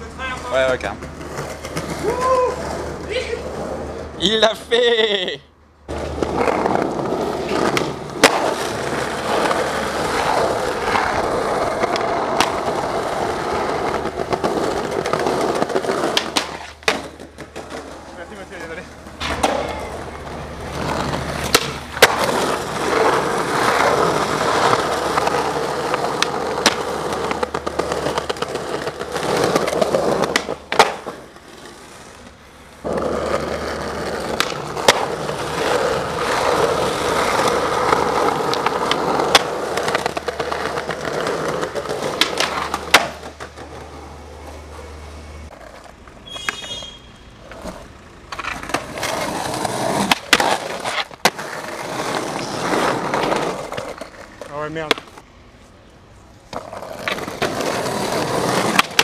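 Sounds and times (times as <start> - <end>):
skateboard wheels rolling on concrete: 0.0 - 59.0
skateboard clacks: 5.9 - 55.2, 56.5 - 59.0.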